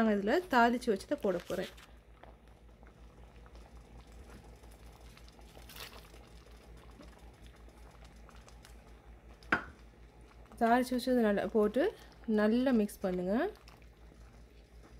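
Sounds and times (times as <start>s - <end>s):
pot simmering and crackling: 0.0s - 14.9s.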